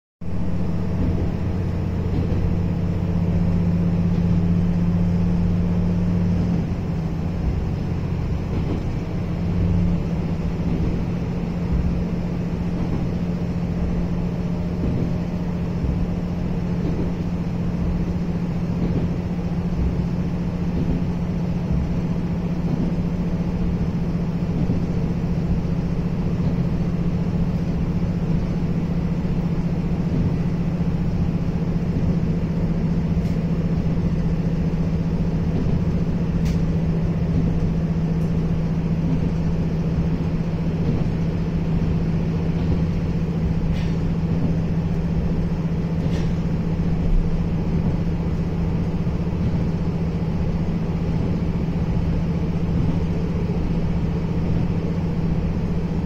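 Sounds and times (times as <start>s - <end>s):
train carriage rumble: 0.2s - 56.0s.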